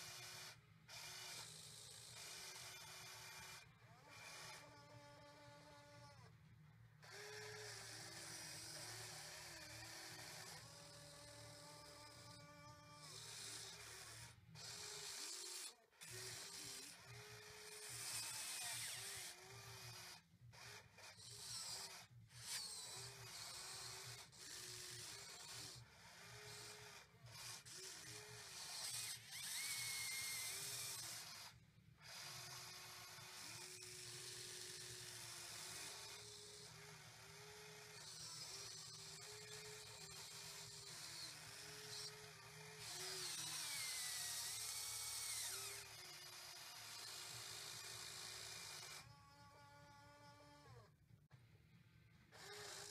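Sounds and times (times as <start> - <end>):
small motors whining: 0.0 - 51.0, 52.2 - 52.9.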